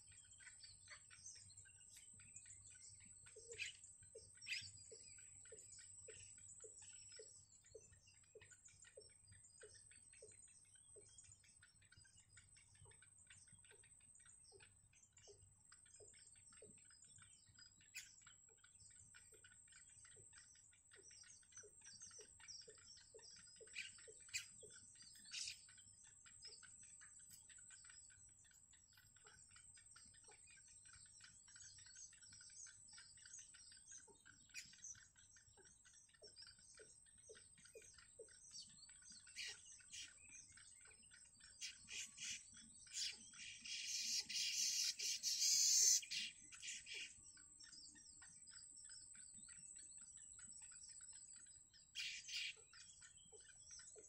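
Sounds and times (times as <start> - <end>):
bird chicks begging chirps: 0.0 - 54.0.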